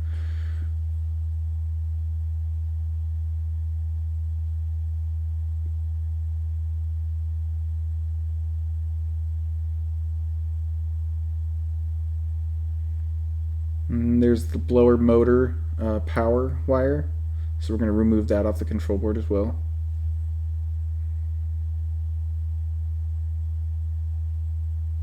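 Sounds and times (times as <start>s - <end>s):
low-pitched hum: 0.0s - 25.0s.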